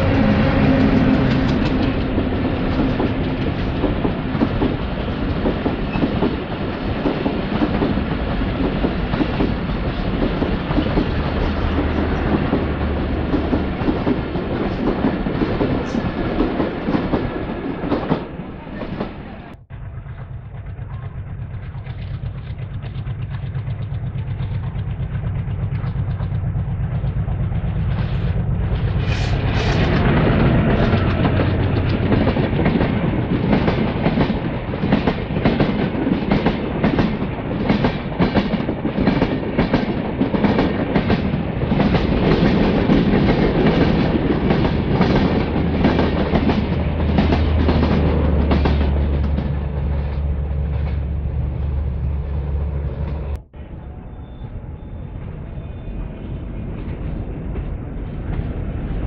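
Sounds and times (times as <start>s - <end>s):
train wheels clattering on rails: 0.0s - 19.2s, 19.8s - 53.4s, 55.2s - 59.0s
diesel locomotive drone: 0.0s - 59.0s.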